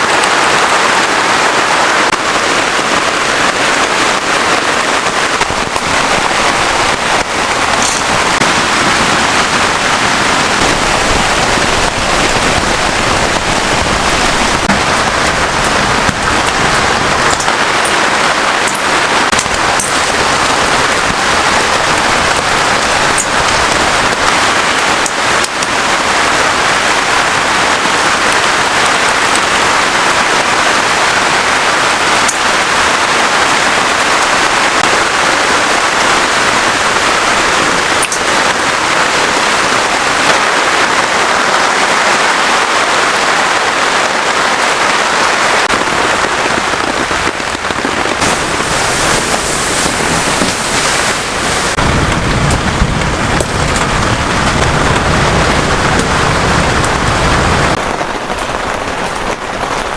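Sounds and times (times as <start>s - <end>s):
heavy rain: 0.0s - 59.9s
sharp raindrop ticks: 2.1s - 8.6s, 9.5s - 41.7s, 44.5s - 59.9s.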